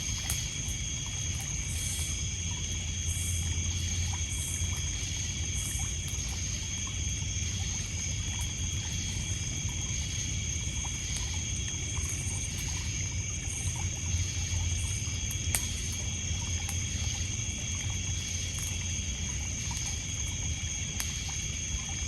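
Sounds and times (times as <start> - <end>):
campfire crackles: 0.0 - 22.0
insects trilling: 0.0 - 22.0
water lapping on pebbles: 0.0 - 22.0.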